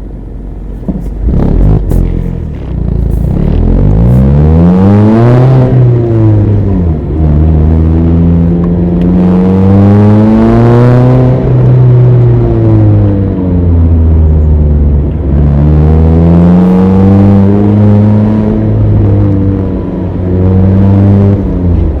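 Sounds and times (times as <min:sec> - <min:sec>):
car engine revving under load: 0:00.6 - 0:22.0.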